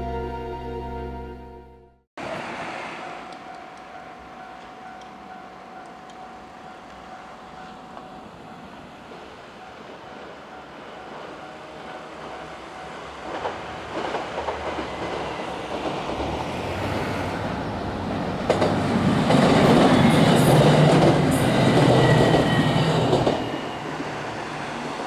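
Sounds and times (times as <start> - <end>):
train wheels clicking on rail joints: 3.0 - 17.0, 18.1 - 24.9.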